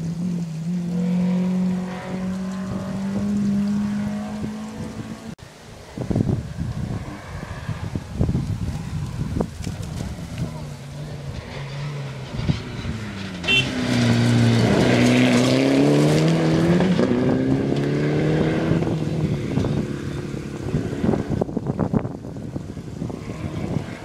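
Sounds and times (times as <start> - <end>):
rally car engine at full throttle: 0.0 - 5.4, 10.1 - 24.0
wind noise on microphone: 1.8 - 24.0.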